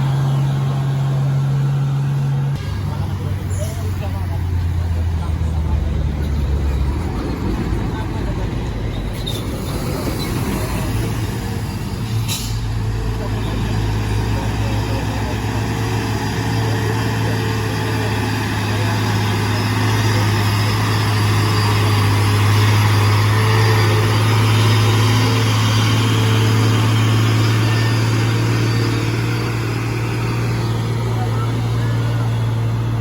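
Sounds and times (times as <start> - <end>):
truck diesel engine drone: 0.0 - 33.0.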